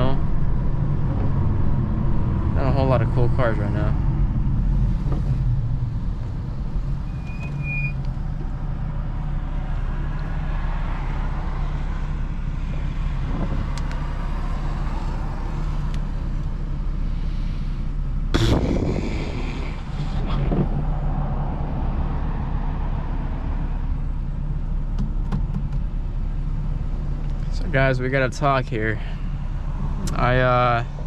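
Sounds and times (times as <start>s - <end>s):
car engine cruising: 0.0s - 31.0s
road and tyre noise: 0.0s - 31.0s.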